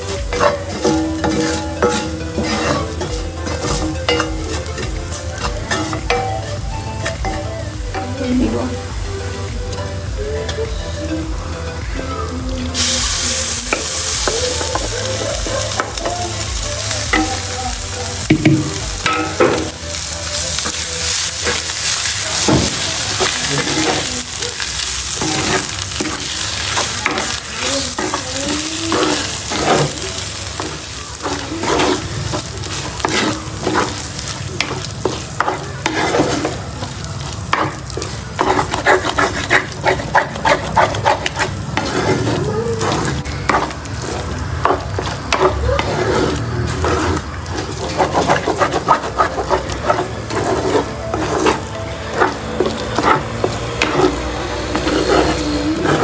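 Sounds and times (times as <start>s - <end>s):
utensil scraping a pan: 0.0s - 8.8s, 12.7s - 56.0s
food sizzling in a pan: 0.0s - 56.0s.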